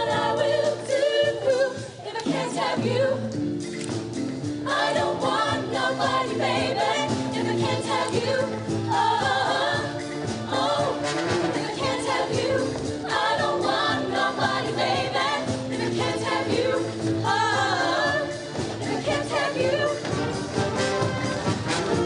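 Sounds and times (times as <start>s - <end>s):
choir singing: 0.0s - 3.4s, 4.6s - 22.0s
backing music: 0.0s - 22.0s.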